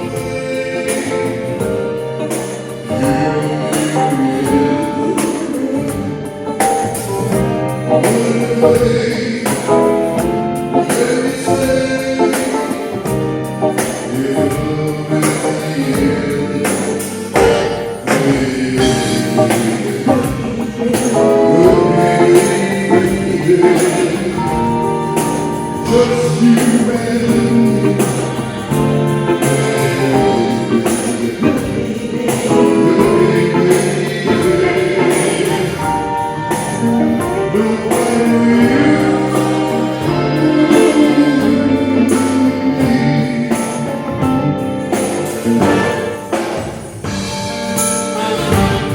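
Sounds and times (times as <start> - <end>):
person singing: 0.0 - 46.4
live band playing: 0.0 - 48.9.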